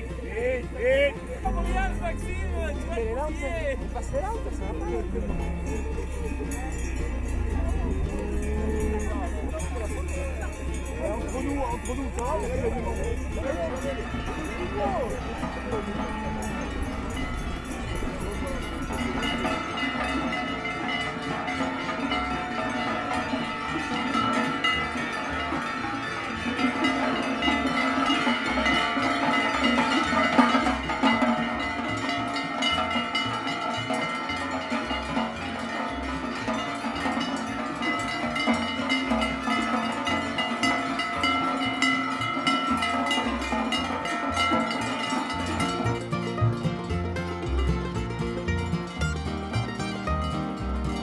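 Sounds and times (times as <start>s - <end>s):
cowbells clanging: 0.0s - 51.0s.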